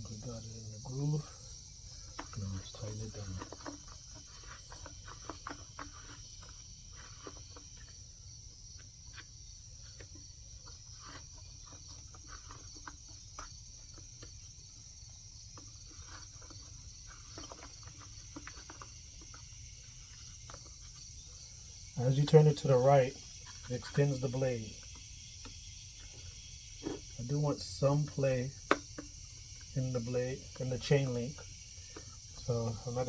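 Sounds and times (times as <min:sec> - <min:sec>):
crickets chirring: 0:00.0 - 0:33.0.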